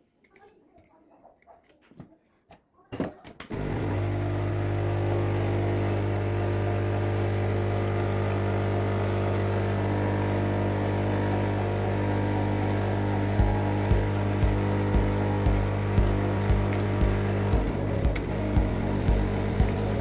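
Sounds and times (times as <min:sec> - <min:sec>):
electrical machine humming: 0:03.5 - 0:20.0.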